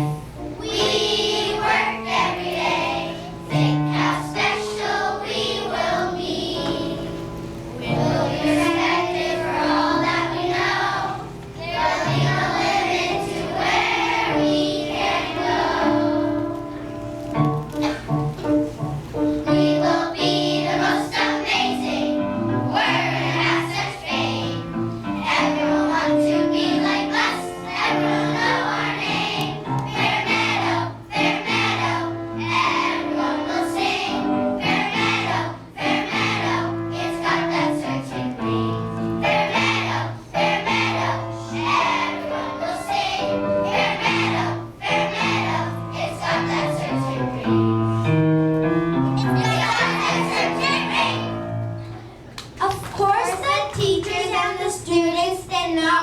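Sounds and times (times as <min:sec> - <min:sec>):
children singing together: 0:00.0 - 0:52.2.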